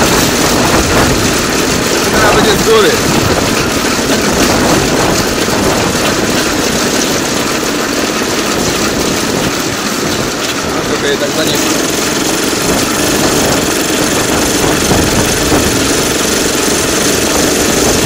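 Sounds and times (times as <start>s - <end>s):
rail vehicle rattling drone: 0.0s - 18.0s.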